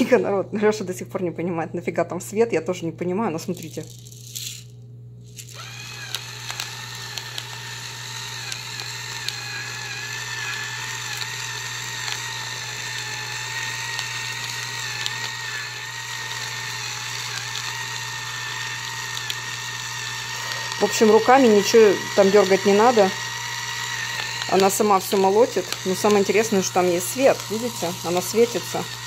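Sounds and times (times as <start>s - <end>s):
pepper mill motor whining: 5.2s - 29.0s
grinder ticking: 5.4s - 29.0s.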